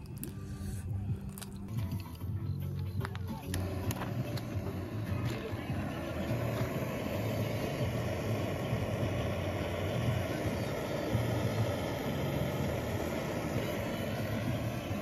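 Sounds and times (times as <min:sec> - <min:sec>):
torch lighter flame hissing: 0:00.0 - 0:15.0.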